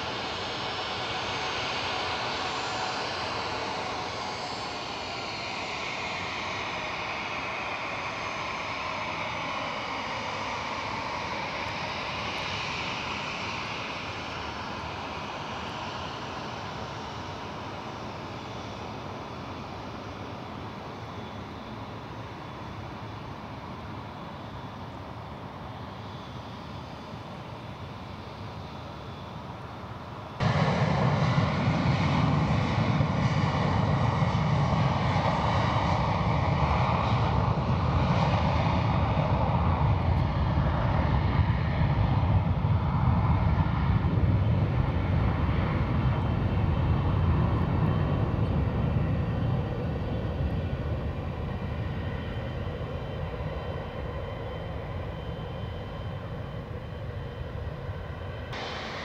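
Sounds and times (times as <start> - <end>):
jet engines passing: 0.0 - 59.0.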